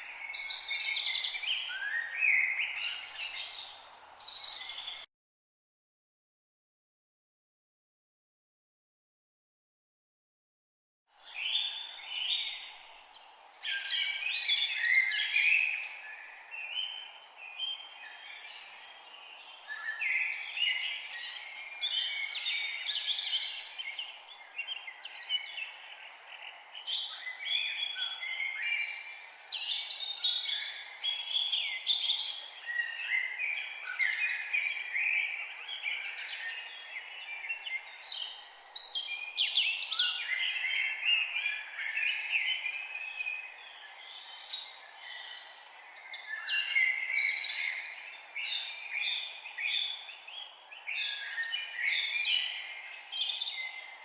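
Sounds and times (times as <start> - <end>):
birds chirping and singing: 0.0 - 5.0, 11.3 - 54.0.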